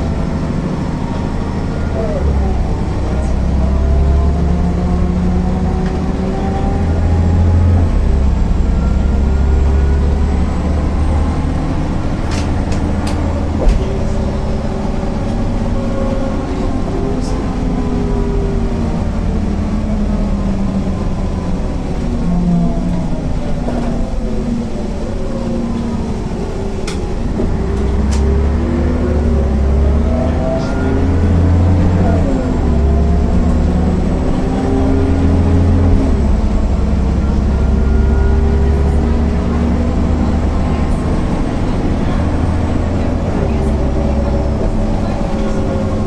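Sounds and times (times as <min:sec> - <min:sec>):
bus diesel engine accelerating: 0:00.0 - 0:46.0.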